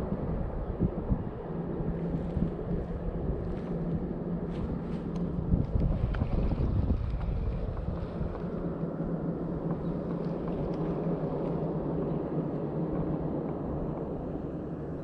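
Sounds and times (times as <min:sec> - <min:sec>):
faint hum: 0:00.0 - 0:15.0
low outdoor rumble: 0:00.0 - 0:15.0.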